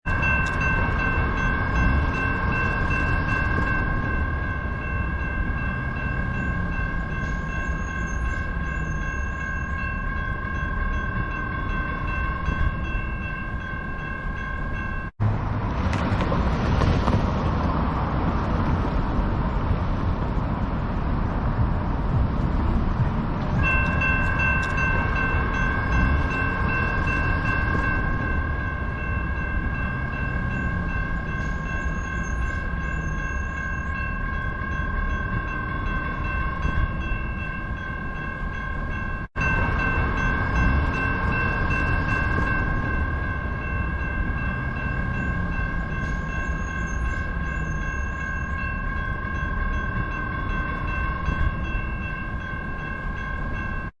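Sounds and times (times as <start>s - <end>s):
railroad crossing bell ringing: 0.0s - 15.2s, 22.8s - 54.0s
low rumble: 0.2s - 47.6s.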